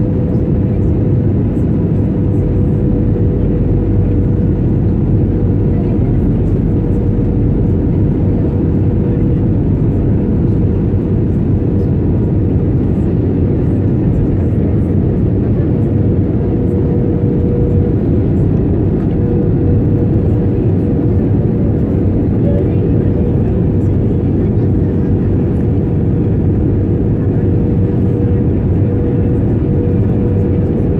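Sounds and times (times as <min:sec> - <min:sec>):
airplane cabin engine rumble: 0:00.0 - 0:30.9.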